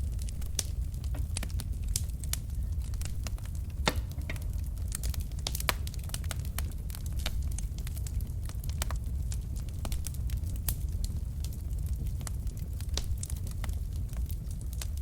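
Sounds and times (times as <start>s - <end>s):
burning logs crackling and popping: 0.0s - 15.0s
fire rumbling: 0.0s - 15.0s.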